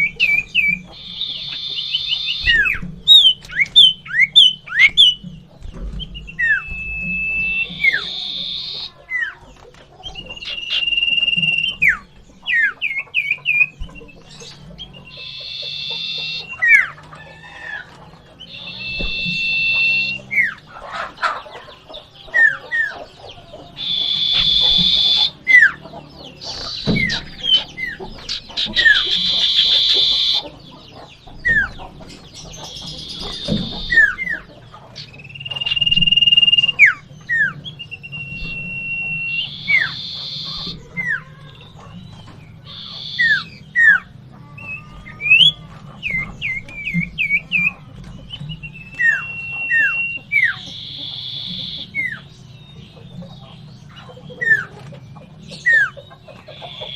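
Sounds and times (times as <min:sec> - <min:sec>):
bird song whistles: 0:00.0 - 0:17.0, 0:18.4 - 0:20.6, 0:22.3 - 0:41.2, 0:42.0 - 0:54.8, 0:55.5 - 0:56.9.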